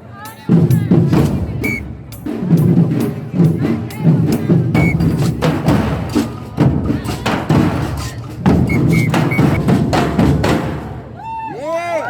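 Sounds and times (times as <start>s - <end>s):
drums beaten unevenly: 0.0s - 11.2s.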